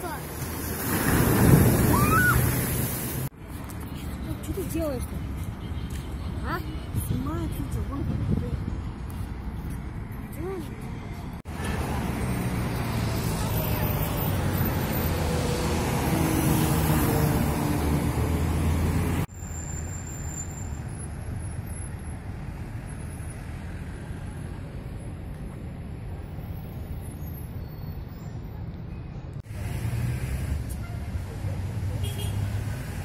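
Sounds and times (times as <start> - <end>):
cars and buses passing: 0.0 - 33.0
distant traffic hum: 0.0 - 33.0.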